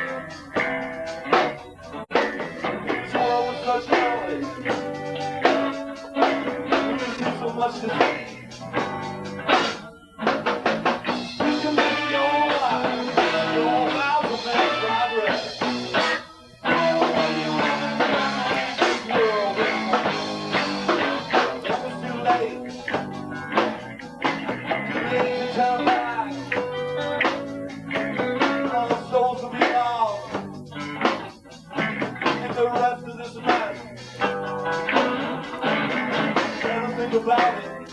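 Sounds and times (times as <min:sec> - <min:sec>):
bass guitar: 0:00.0 - 0:37.9
drums: 0:00.0 - 0:37.9
electric guitar bending notes: 0:00.0 - 0:37.9.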